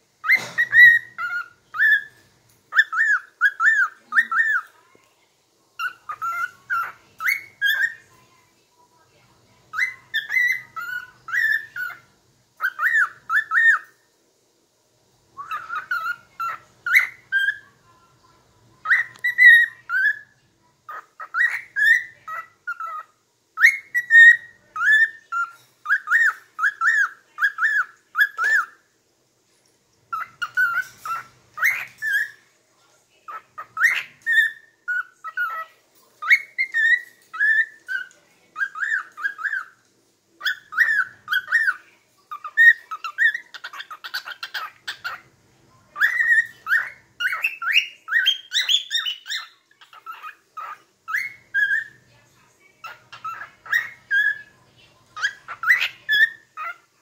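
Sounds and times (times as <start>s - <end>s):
cockatiel whistling song: 0.2s - 4.7s, 5.8s - 8.1s, 9.7s - 14.0s, 15.4s - 17.6s, 18.8s - 28.8s, 30.1s - 32.4s, 33.3s - 35.6s, 36.2s - 39.8s, 40.4s - 45.2s, 46.0s - 52.0s, 52.8s - 54.5s, 55.2s - 56.8s.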